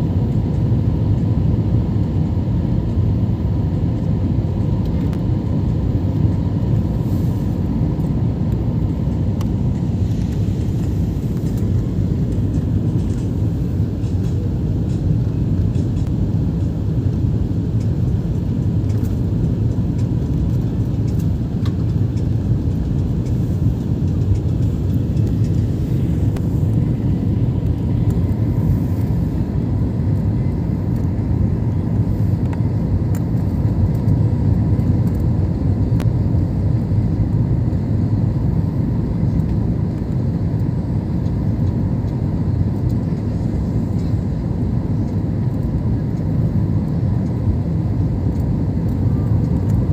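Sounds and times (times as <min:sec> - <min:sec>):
airliner engines rumbling: 0:00.0 - 0:49.9
faint steady hum: 0:00.0 - 0:49.9.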